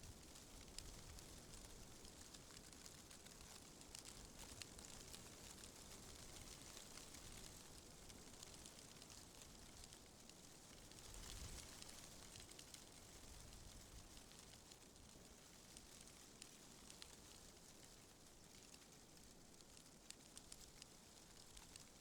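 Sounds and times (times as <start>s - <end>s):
small crackles: 0.0s - 22.0s.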